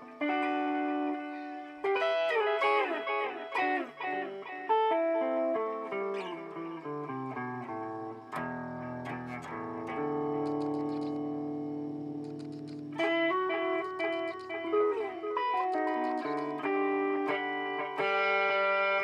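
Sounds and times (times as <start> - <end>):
electric guitar with delay echoes: 0.0 - 19.0.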